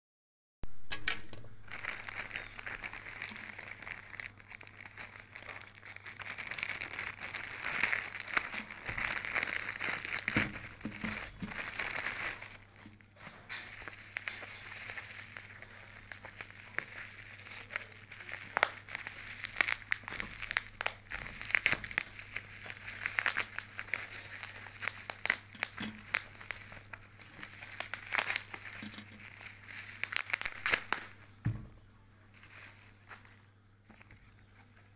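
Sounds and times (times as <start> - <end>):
plastic packaging crinkling: 0.9 - 34.9.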